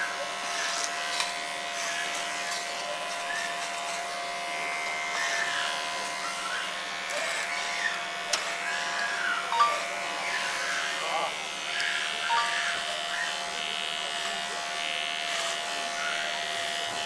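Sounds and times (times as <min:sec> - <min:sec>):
hair clipper buzzing: 0:00.0 - 0:17.0.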